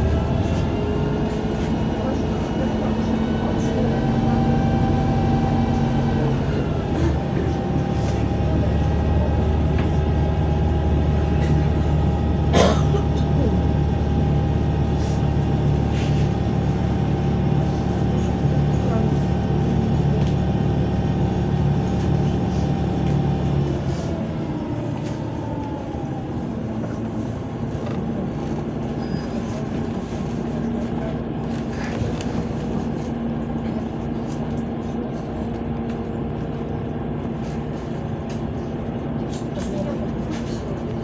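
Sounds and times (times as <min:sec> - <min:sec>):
bus diesel engine droning: 0:00.0 - 0:41.0
road noise: 0:00.0 - 0:41.0.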